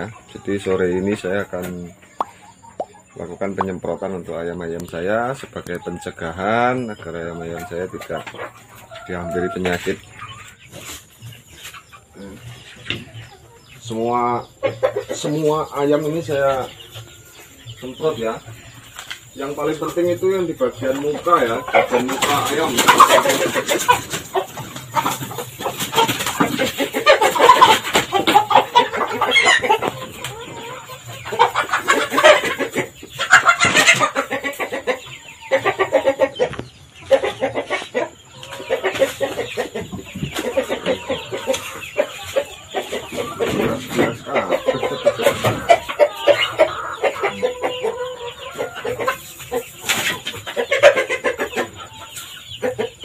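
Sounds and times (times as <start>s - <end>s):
chickens clucking and squawking: 0.0s - 53.0s.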